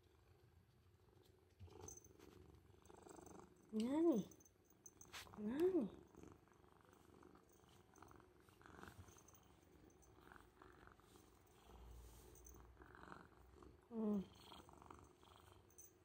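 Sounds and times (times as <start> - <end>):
kitten purring: 0.0 - 4.4, 5.1 - 16.0.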